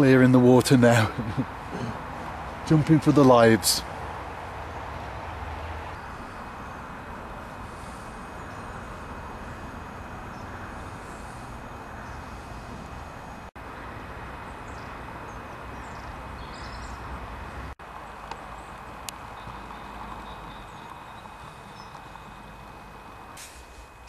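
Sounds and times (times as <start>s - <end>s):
low outdoor rumble and hiss: 0.0s - 24.0s.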